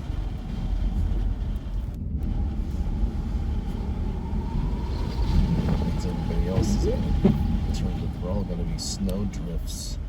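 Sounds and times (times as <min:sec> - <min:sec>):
road noise: 0:00.0 - 0:10.0
wind buffeting car: 0:00.0 - 0:10.0.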